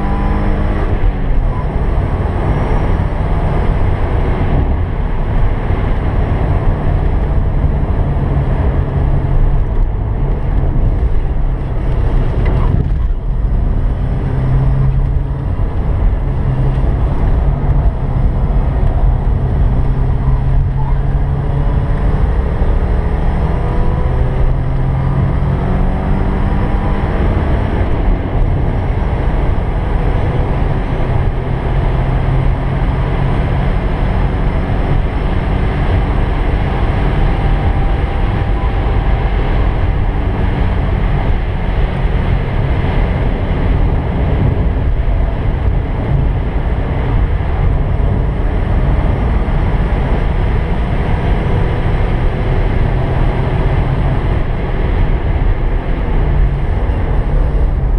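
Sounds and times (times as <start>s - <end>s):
car engine accelerating: 0.0s - 57.9s
road and wind noise: 0.0s - 57.9s.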